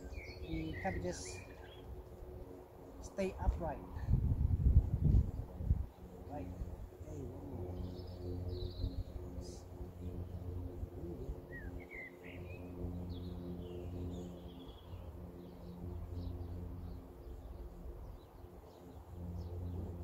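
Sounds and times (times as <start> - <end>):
birds chirping: 0.0 - 4.1, 5.3 - 20.0
steady low hum: 0.0 - 20.0.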